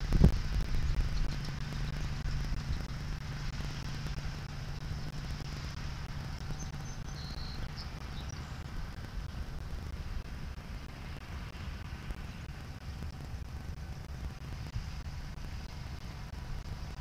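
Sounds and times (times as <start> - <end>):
surf rumble: 0.0 - 17.0
wind on microphone: 0.0 - 17.0.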